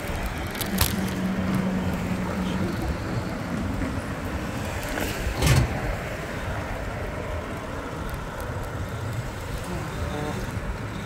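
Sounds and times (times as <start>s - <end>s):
bicycle tyres rolling on asphalt: 0.0s - 11.0s
wind noise: 0.0s - 11.0s.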